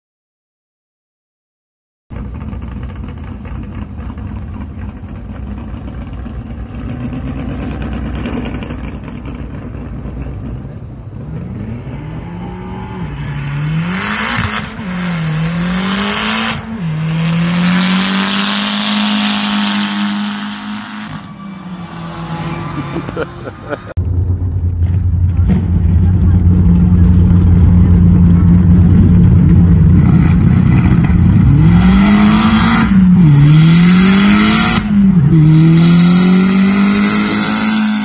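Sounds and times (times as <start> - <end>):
car engine revving with gear changes: 2.2 - 24.0, 24.9 - 38.0
loud rush of noise: 6.4 - 38.0.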